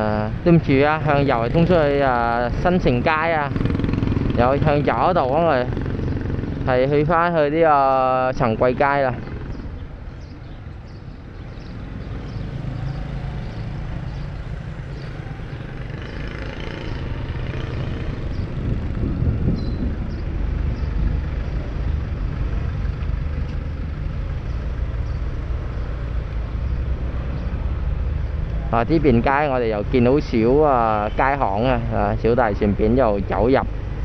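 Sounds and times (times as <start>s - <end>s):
passing traffic engine rumble: 0.0s - 34.0s.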